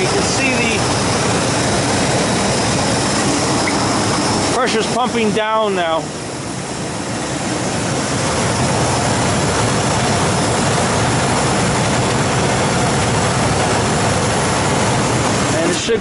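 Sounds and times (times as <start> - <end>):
condensing unit compressor running: 0.0 - 16.0.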